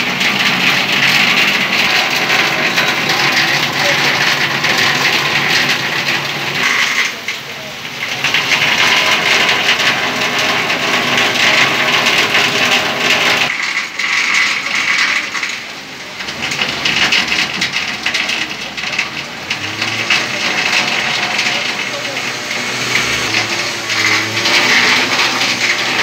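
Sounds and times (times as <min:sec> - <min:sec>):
heavy rain: 0:00.0 - 0:26.0
rushing floodwater: 0:00.0 - 0:26.0
people talking: 0:00.1 - 0:13.4, 0:14.5 - 0:26.0.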